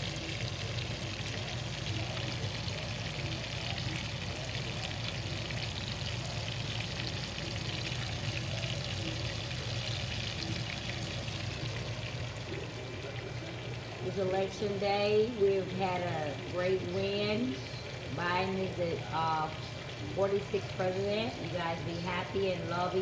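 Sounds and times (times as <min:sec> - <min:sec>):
lobster sizzling in pan: 0:00.0 - 0:23.0
low steady hum: 0:00.0 - 0:23.0.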